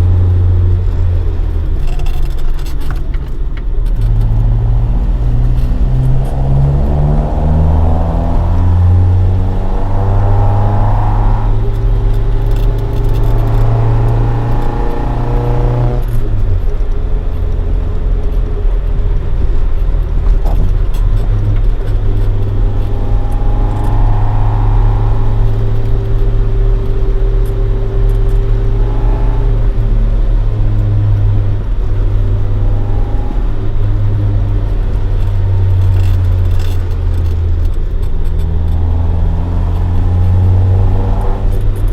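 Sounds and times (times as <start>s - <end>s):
car engine cruising: 0.0s - 41.9s.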